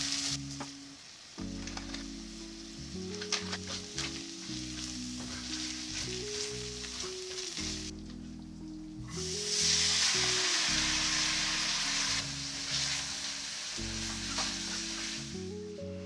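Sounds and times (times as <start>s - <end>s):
food sizzling in a pan: 0.0s - 8.0s, 9.1s - 16.0s
soft background music: 0.0s - 16.0s.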